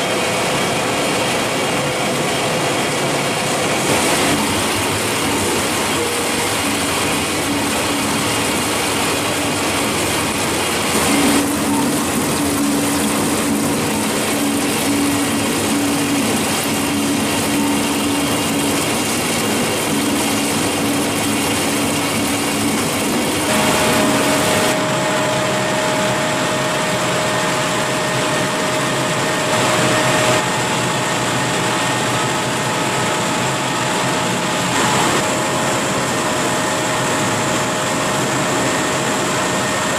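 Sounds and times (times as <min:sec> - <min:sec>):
machinery humming and whining: 0:00.0 - 0:39.9.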